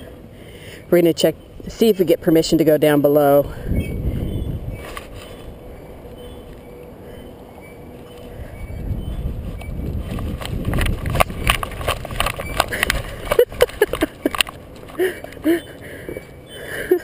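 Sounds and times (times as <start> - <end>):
low wind rumble: 0.0 - 17.0.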